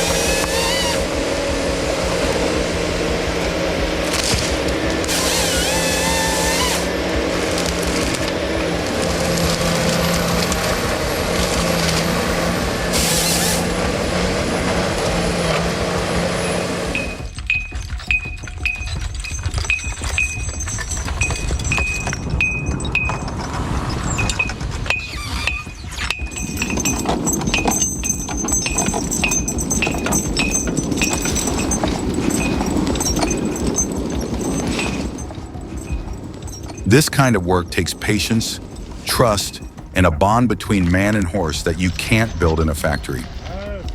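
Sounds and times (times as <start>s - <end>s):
forestry machine engine whine: 0.0s - 17.9s, 18.5s - 43.9s
harness chains clinking: 0.0s - 43.9s
hoof steps: 0.0s - 43.9s.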